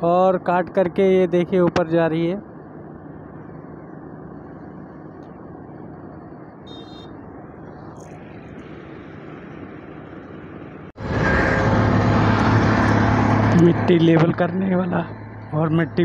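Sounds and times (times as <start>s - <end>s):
close engine drone: 0.0s - 16.0s
diesel engine rumble: 0.0s - 16.0s.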